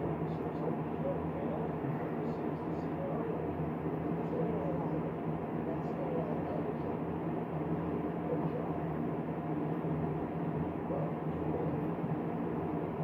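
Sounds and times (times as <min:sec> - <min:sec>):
fan or appliance hum with hiss: 0:00.0 - 0:13.0.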